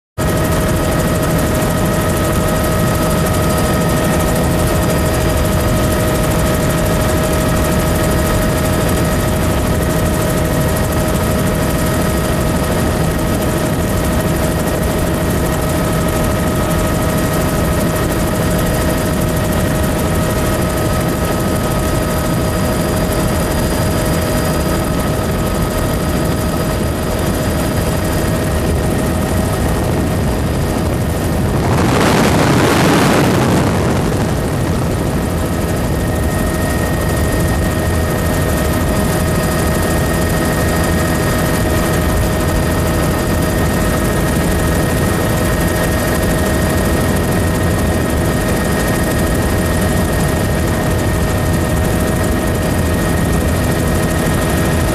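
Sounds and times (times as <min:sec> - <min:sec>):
helicopter rotor and engine: 0:00.2 - 0:54.9.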